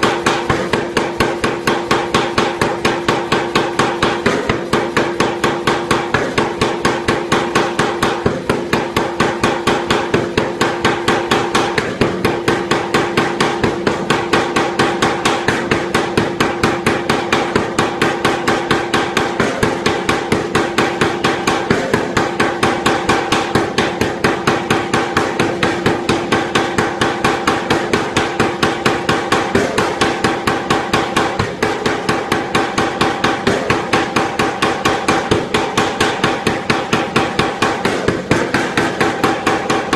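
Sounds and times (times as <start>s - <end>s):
power hammer pounding metal: 0.0s - 39.9s.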